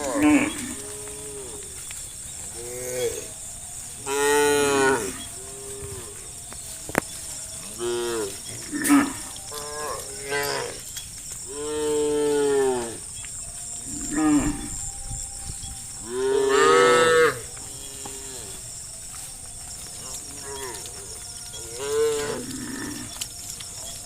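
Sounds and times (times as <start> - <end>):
cows mooing: 0.0 - 1.8, 4.0 - 13.1, 13.8 - 15.2, 16.0 - 18.7, 19.4 - 24.0.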